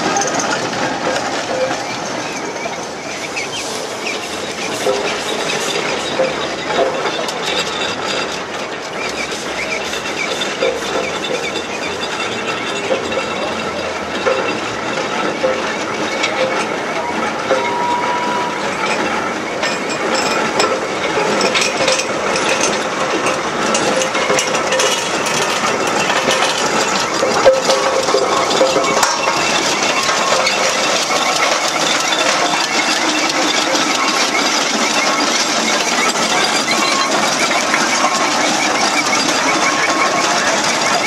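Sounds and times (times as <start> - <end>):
steam roller machinery clanking: 0.0 - 41.0.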